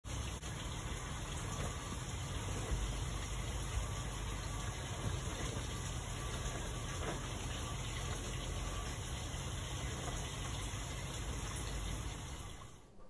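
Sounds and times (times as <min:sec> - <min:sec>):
pond pump humming: 0:00.0 - 0:13.0
moving water hissing: 0:00.1 - 0:12.8.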